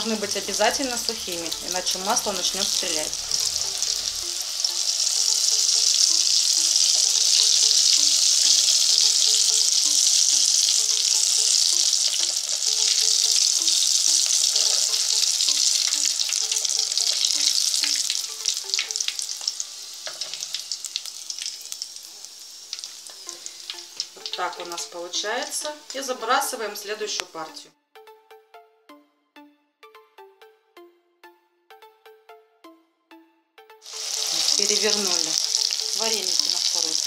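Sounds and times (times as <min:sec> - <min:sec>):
deep-frying sizzle in oil: 0:00.0 - 0:26.5, 0:33.8 - 0:37.0.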